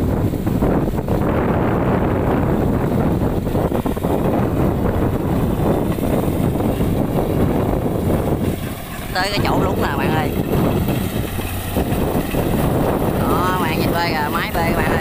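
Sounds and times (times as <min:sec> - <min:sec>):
combine harvester engines: 0:00.0 - 0:15.0
wind buffeting microphone: 0:00.0 - 0:15.0.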